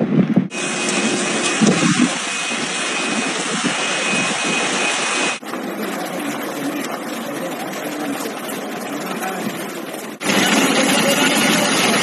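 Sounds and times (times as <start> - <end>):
storm wind and rain: 0.0 - 12.0.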